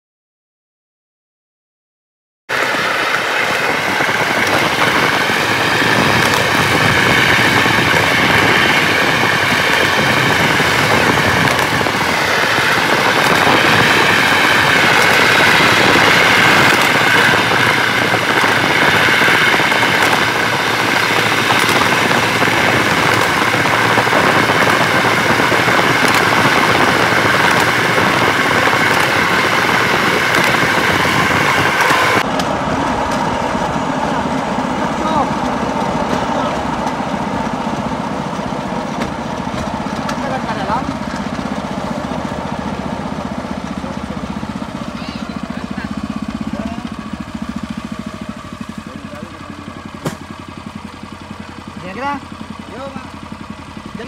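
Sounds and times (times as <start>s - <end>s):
rail trolley engine running: 2.5s - 54.0s.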